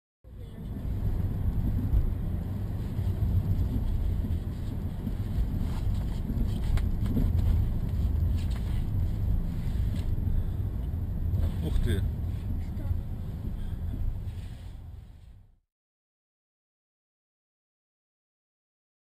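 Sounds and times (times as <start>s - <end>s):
car engine and tyre rumble: 0.2s - 15.6s.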